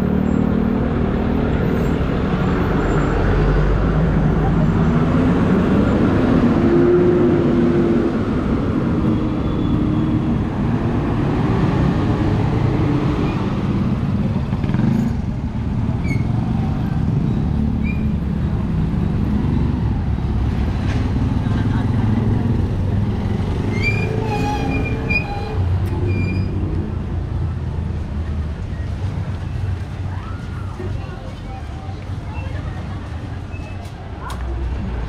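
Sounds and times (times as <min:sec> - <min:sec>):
vehicle engines passing: 0:00.0 - 0:35.0.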